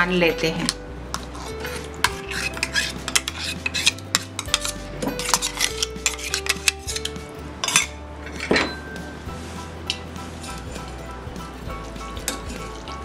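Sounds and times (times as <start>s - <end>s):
spoon scraping steel jar: 1.1s - 13.0s.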